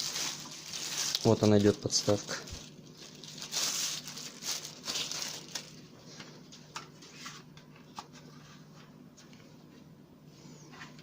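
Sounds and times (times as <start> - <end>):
soft packaging rustling: 0.0 - 9.8.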